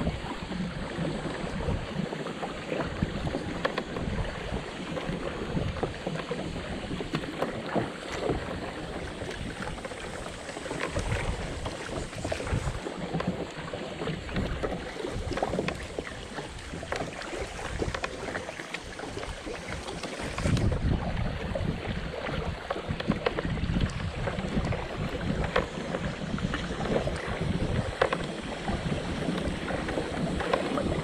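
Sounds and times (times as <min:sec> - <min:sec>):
water splashing against kayak: 0:00.0 - 0:31.0
wind rumbling on microphone: 0:00.0 - 0:31.0.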